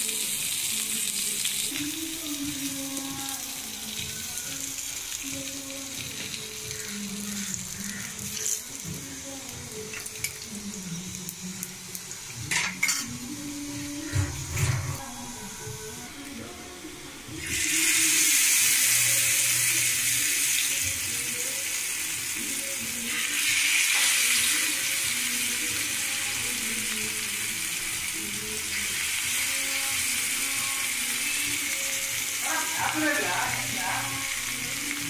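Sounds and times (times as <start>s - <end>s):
hot oil sizzling: 0.0s - 35.0s.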